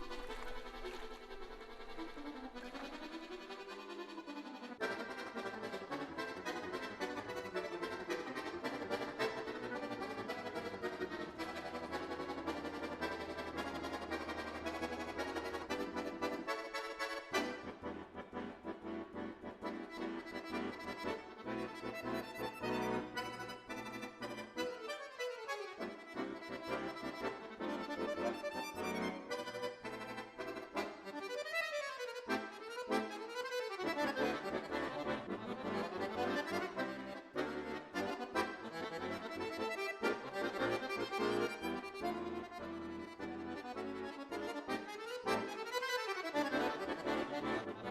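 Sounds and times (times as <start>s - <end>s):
accordion music: 0.0s - 47.9s.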